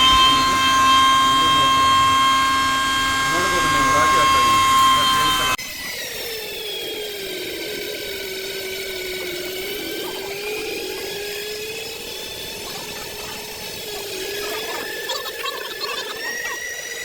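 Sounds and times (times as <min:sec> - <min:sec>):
flour mill motor whining: 0:00.0 - 0:17.0.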